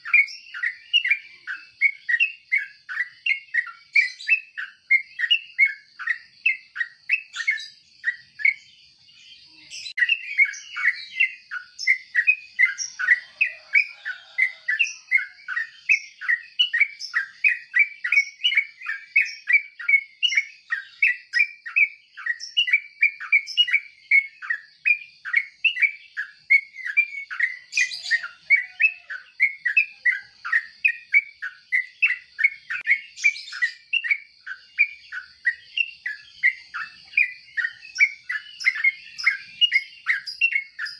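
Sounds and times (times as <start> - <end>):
bird chirping rapidly: 0.0 - 40.9.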